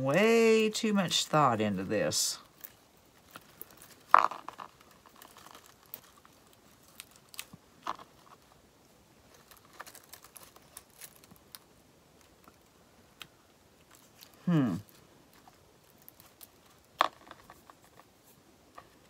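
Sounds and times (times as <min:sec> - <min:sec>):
crinkly rustling: 0:00.2 - 0:19.0.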